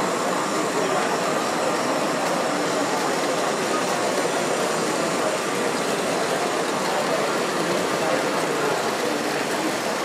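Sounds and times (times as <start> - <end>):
model wagons rolling on track: 0.7 - 10.0.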